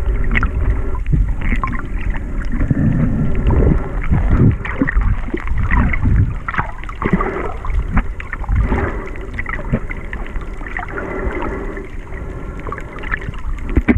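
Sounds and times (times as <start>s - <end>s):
crackles and clicks: 0.0s - 13.9s
muffled underwater rushing: 0.0s - 13.9s.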